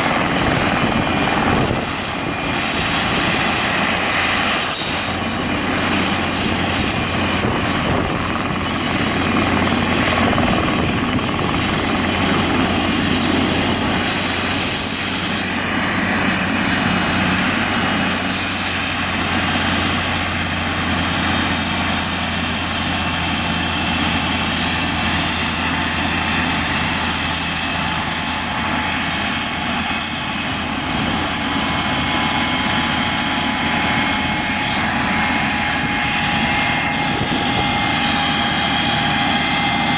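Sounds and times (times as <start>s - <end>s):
helicopter rotor and engine noise: 0.0s - 39.9s
helicopter turbine whine: 0.0s - 39.9s.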